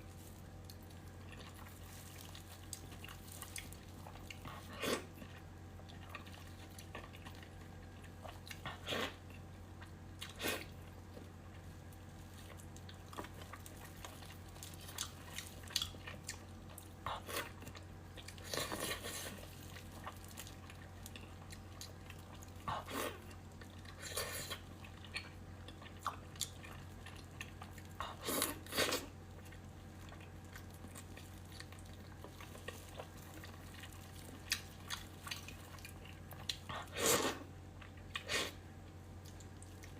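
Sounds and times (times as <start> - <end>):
person chewing food: 0.0 - 38.6, 39.2 - 39.9.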